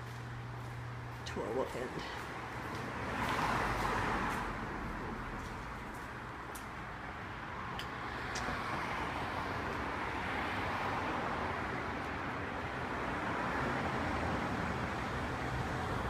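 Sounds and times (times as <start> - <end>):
passing car noise: 0.0 - 16.0.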